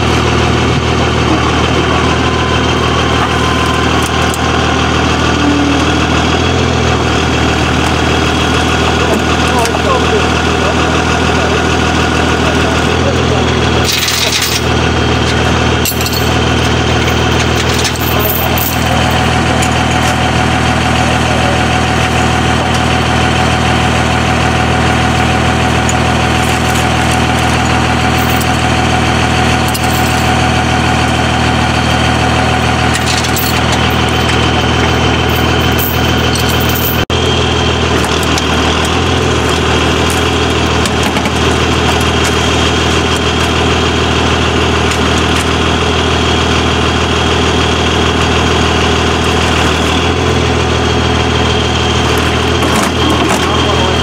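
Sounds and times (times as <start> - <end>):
large vehicle engine idling: 0.0 - 54.0.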